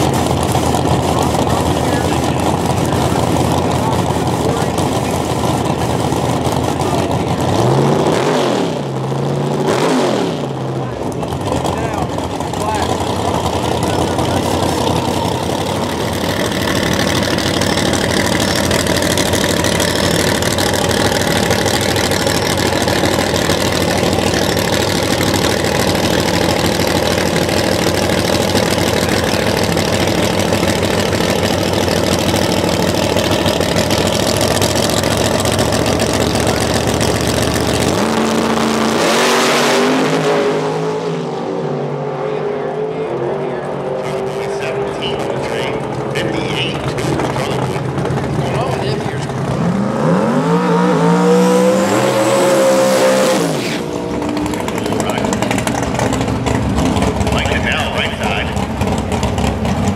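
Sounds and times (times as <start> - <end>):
drag race car engines running: 0.0 - 59.9.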